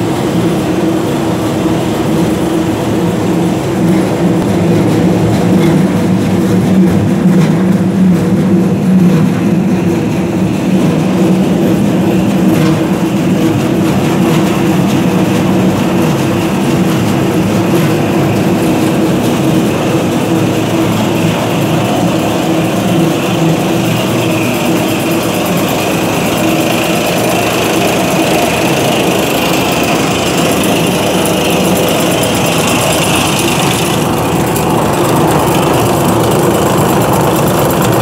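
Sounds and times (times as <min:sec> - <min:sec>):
extruder machine hum: 0:00.0 - 0:38.0.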